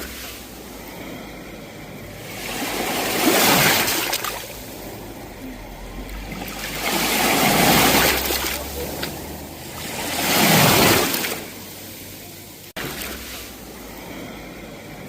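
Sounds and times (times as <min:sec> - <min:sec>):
waves crashing on shore: 0:00.0 - 0:15.0.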